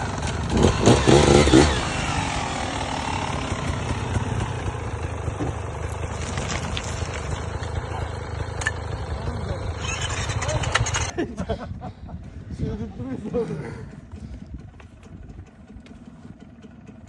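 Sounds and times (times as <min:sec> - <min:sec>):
off-road motorcycle engine rumbling: 0:00.0 - 0:17.0.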